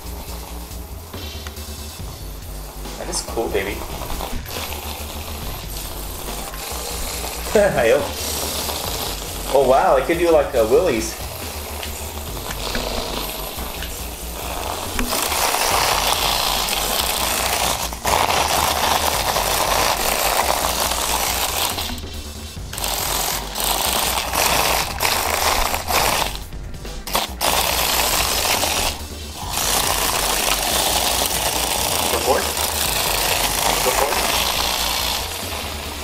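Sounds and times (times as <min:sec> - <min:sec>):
background music with beat: 0:00.0 - 0:36.0
toy robot motor rattling: 0:02.0 - 0:36.0.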